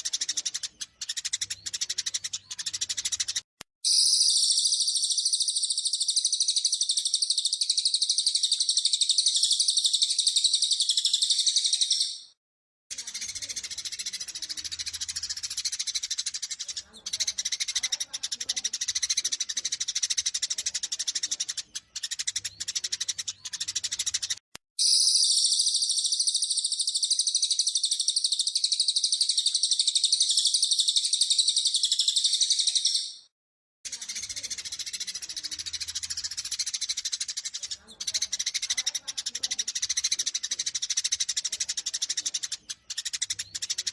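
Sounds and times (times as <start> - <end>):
sparrows chattering: 0.0 - 43.9.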